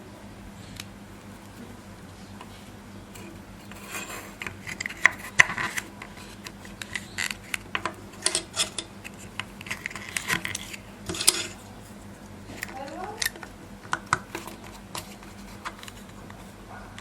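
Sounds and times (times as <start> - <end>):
small parts clicking and scraping: 2.3 - 17.0.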